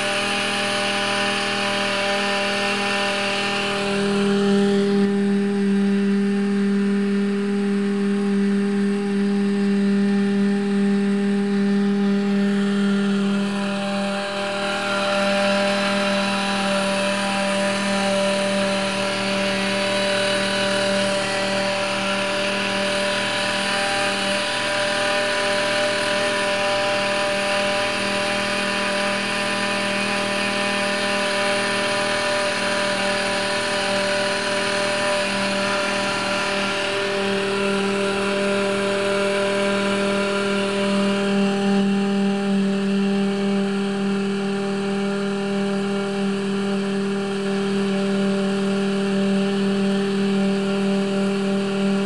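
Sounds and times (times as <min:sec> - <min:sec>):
motor whining: 0:00.0 - 0:52.0.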